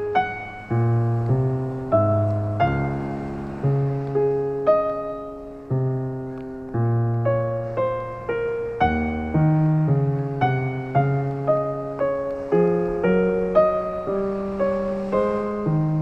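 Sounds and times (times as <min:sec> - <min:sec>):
slow gentle piano: 0:00.0 - 0:16.0.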